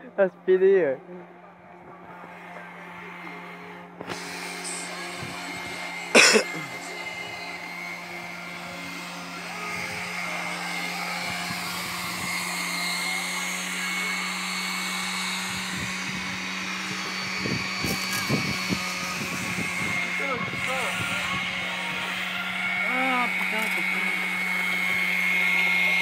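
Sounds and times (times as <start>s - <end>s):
small electric motor whirring: 0.0s - 26.0s.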